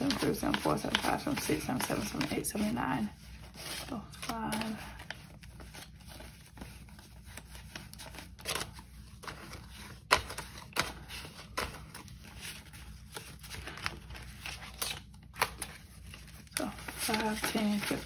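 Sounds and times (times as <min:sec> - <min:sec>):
banknotes rustling and flicking: 0:00.0 - 0:18.0.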